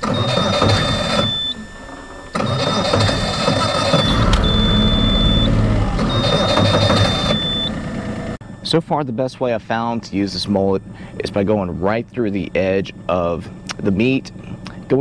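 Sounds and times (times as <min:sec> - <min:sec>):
boat motor whining: 0:00.0 - 0:08.4, 0:09.7 - 0:15.0.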